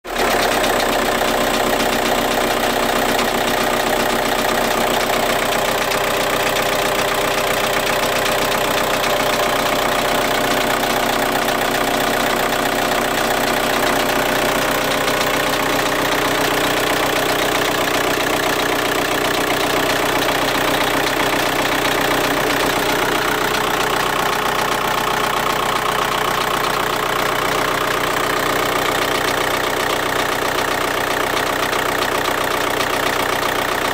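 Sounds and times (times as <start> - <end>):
engine rattle: 0.0 - 33.9
diesel engine idling: 0.1 - 33.9.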